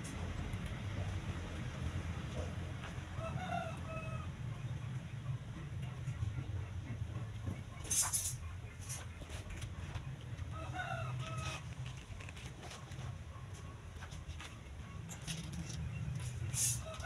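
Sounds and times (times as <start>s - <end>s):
chickens calling: 2.4s - 17.0s.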